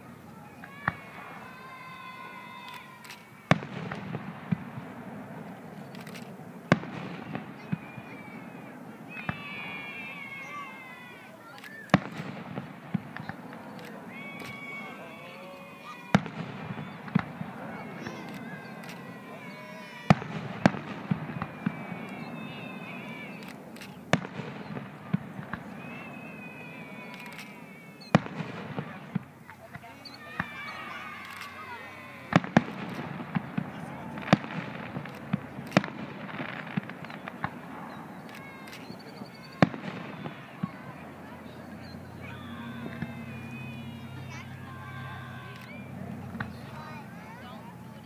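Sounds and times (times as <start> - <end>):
faint fireworks cracks: 0.0 - 48.0
fireworks booming: 0.0 - 48.0.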